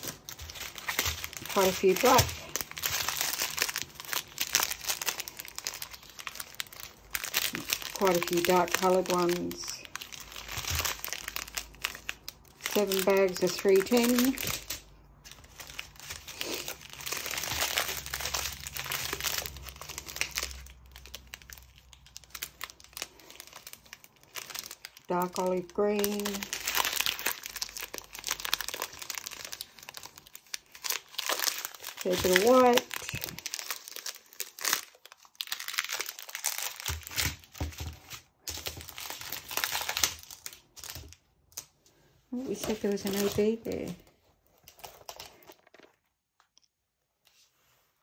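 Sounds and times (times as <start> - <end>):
plastic bags crinkling: 0.0 - 41.8, 42.4 - 46.1.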